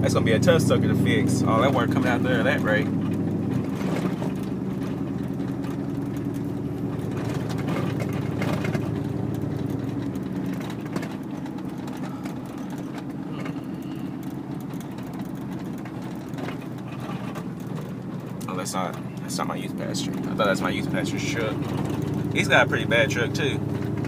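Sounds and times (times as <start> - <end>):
truck exhaust drone: 0.0 - 24.0.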